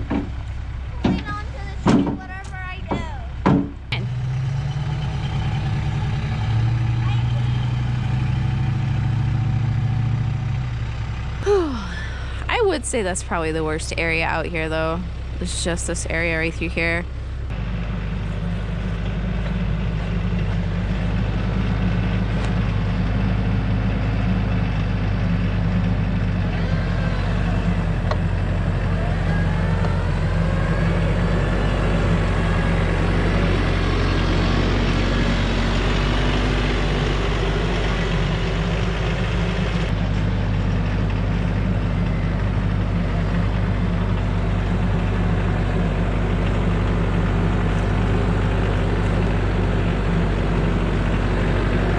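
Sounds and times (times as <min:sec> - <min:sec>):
heavy vehicle engine hum: 0:00.0 - 0:51.9.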